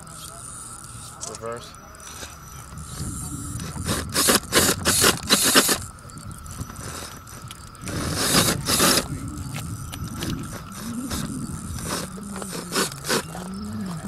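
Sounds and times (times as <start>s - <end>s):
mechanical drivetrain noise: 2.0s - 14.0s
toy crawler scraping on rock: 2.0s - 14.0s.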